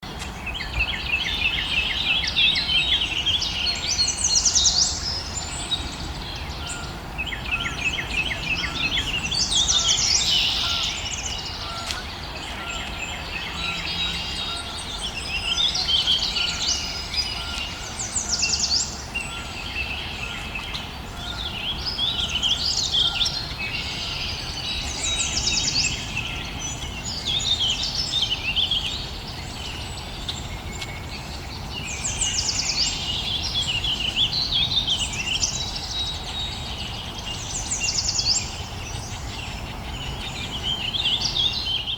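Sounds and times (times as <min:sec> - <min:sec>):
birds singing and calling: 0:00.0 - 0:41.9.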